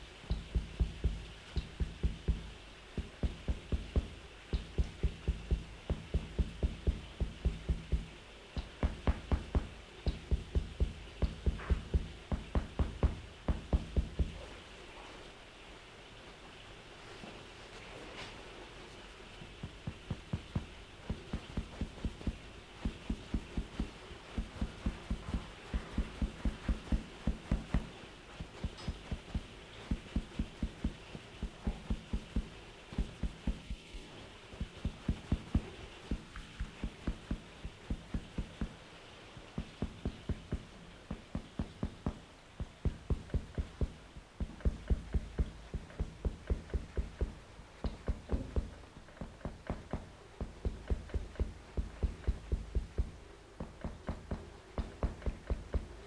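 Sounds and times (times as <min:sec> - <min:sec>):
dull thuds of massage strikes: 0:00.0 - 0:14.6, 0:19.3 - 0:56.0.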